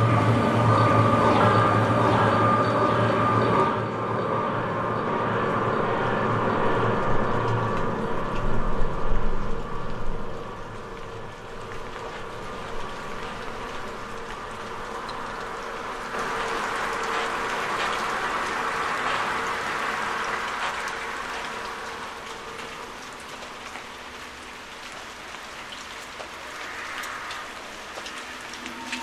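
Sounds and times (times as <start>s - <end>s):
rain-like hiss with crackles: 0.0s - 2.7s, 3.4s - 29.0s.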